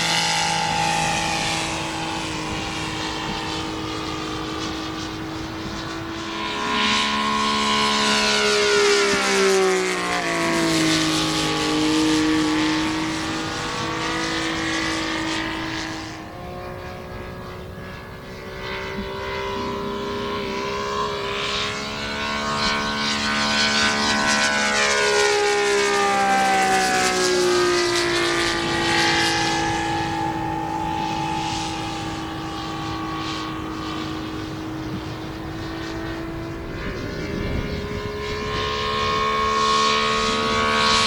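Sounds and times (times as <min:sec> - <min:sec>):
model plane engine flying past: 0:00.0 - 0:41.0.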